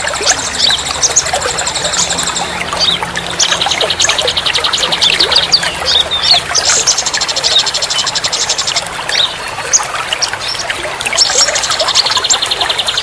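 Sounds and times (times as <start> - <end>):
songbirds trilling: 0.0 - 13.0.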